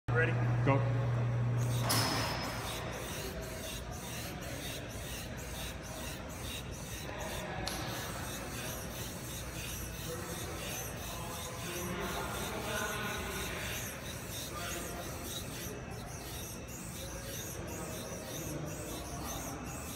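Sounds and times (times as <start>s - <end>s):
rhythmic swishing of training machine: 1.4s - 19.9s.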